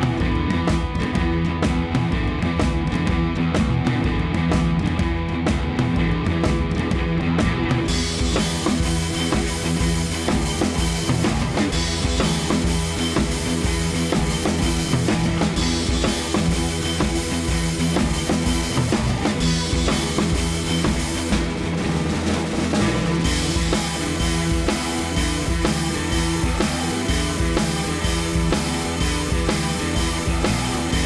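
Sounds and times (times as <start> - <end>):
distorted electric guitar: 0.0 - 31.0
fast drum beat: 0.0 - 31.0.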